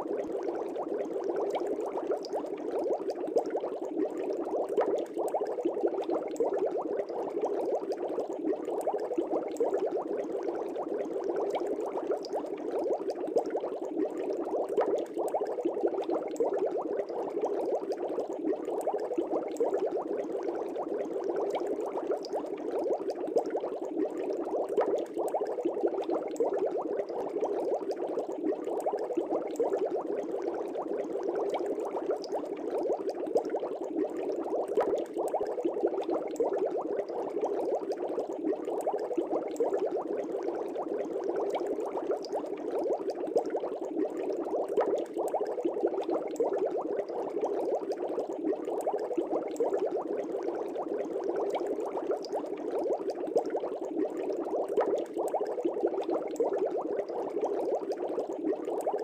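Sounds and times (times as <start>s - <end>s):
aquarium air bubbling: 0.0s - 59.0s.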